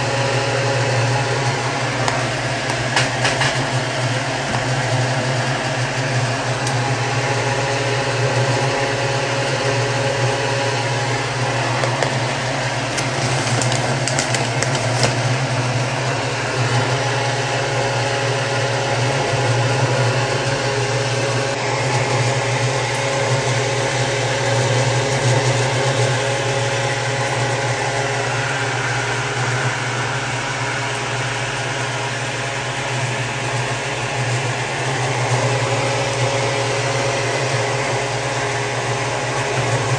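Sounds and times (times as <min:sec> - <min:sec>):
fan motor hum: 0:00.0 - 0:39.9.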